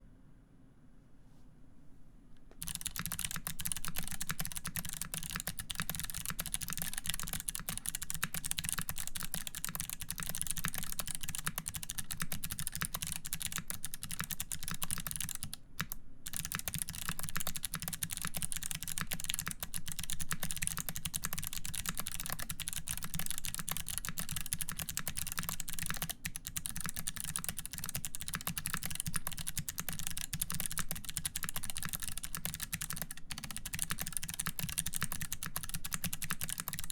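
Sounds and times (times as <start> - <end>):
fast mechanical keyboard typing: 2.6 - 36.9.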